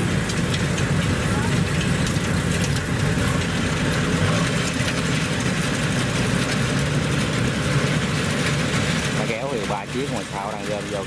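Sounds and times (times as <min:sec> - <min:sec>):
diesel engine droning: 0:00.0 - 0:11.0
machinery clattering: 0:00.0 - 0:11.0.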